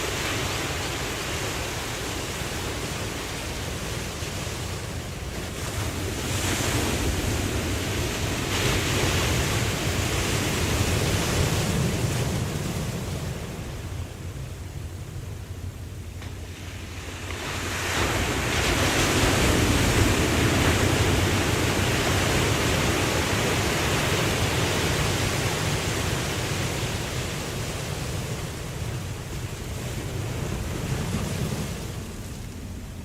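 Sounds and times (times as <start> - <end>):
ocean wave breaking: 0.0 - 33.0.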